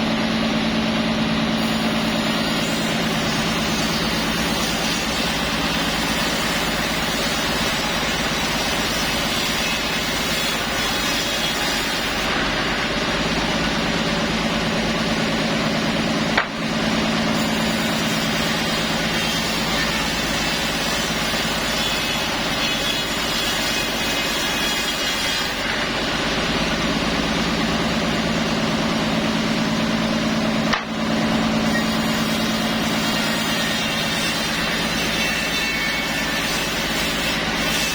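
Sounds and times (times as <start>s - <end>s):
sawmill saw cutting wood: 0.0s - 37.9s.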